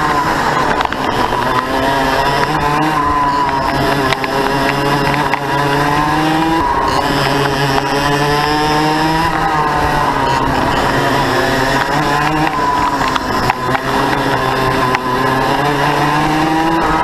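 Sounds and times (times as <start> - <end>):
two-stroke kart engine revving: 0.0 - 17.0.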